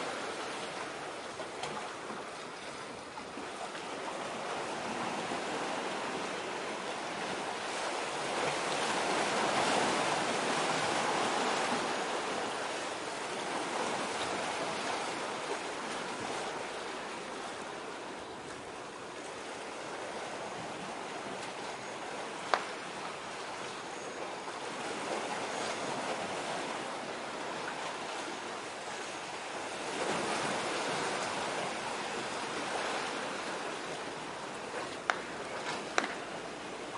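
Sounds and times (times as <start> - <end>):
wind: 0.0 - 36.9.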